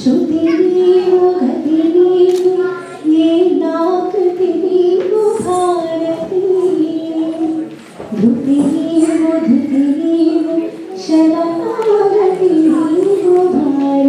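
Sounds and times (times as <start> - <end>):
woman singing into a microphone: 0.0 - 14.0.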